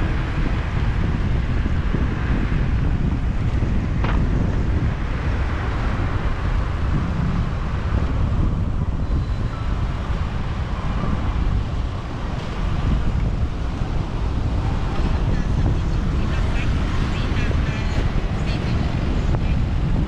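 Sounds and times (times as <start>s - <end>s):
motorbike engine rumble: 0.0s - 20.0s
traffic rumble: 0.0s - 20.0s
wind buffeting microphone: 0.0s - 20.0s.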